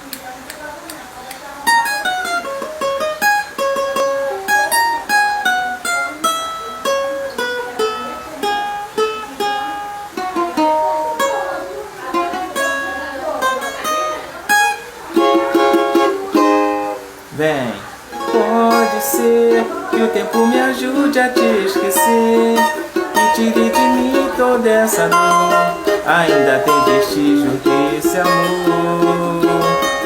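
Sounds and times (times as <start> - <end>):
cavaquinho melody: 0.0 - 30.0.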